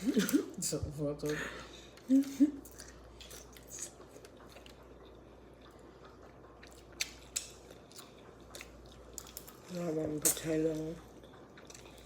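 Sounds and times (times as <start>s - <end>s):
quiet chewing: 1.2s - 12.0s.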